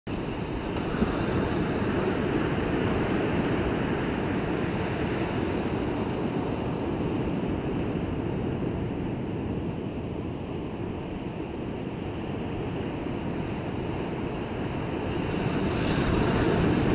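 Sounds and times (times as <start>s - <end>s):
sea surf rushing: 0.1s - 16.9s.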